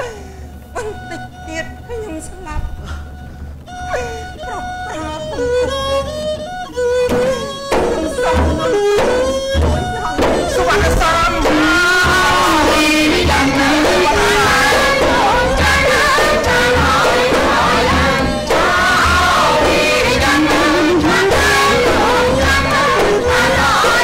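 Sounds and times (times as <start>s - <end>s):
low frame drum beats: 3.6s - 24.0s.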